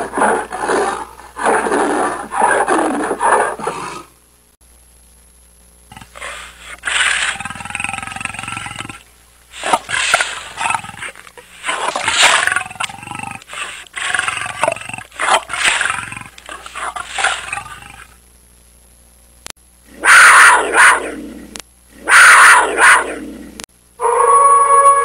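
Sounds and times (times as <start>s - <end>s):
lion roaring: 0.0s - 4.1s, 5.9s - 9.0s, 9.6s - 18.1s, 19.9s - 25.0s.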